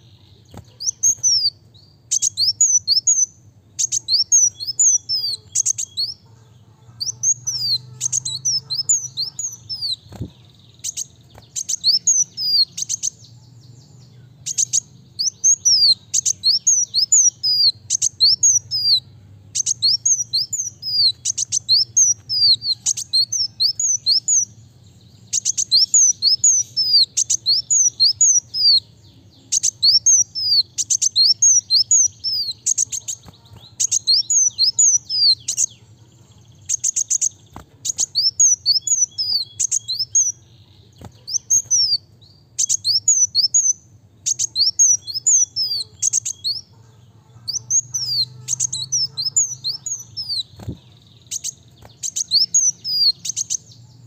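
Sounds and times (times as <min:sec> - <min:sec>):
sunbird singing: 0:00.0 - 0:54.0.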